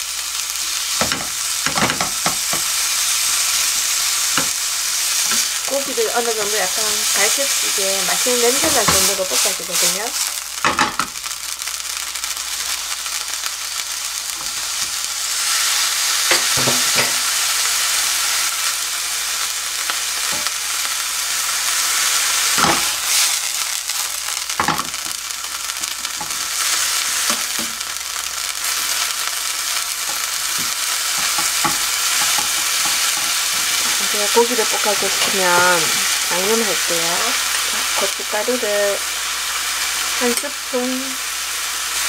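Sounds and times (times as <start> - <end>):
meat sizzling in a frying pan: 0.0 - 42.0.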